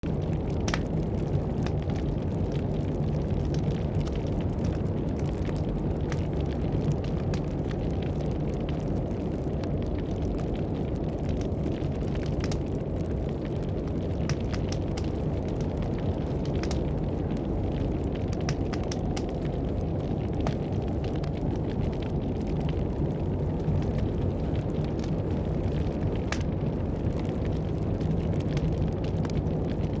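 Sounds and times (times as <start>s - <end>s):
blizzard wind rumble: 0.0s - 30.0s
campfire crackling: 0.0s - 30.0s.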